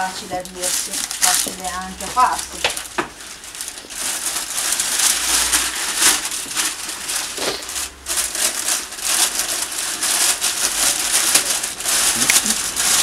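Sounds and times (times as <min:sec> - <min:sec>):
packing paper crumpling: 0:00.0 - 0:13.0.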